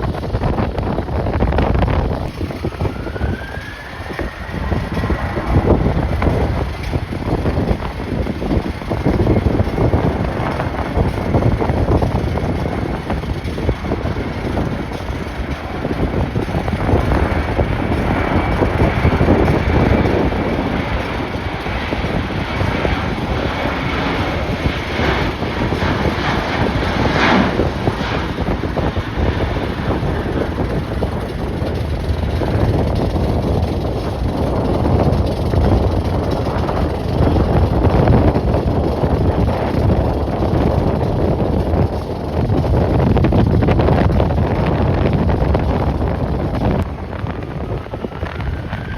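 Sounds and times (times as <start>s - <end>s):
jet engines rumbling: 0.0s - 48.9s
wind buffeting microphone: 0.0s - 48.9s.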